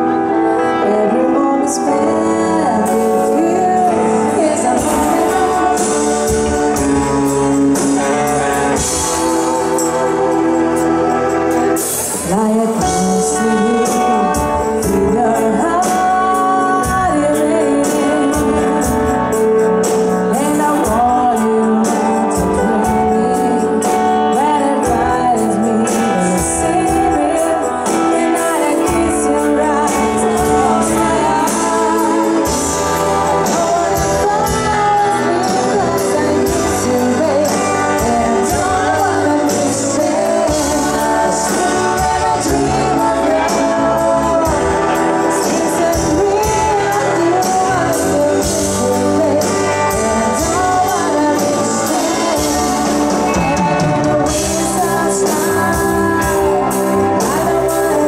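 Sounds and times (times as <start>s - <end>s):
live band playing a song: 0.0s - 58.0s
person singing: 0.0s - 58.0s.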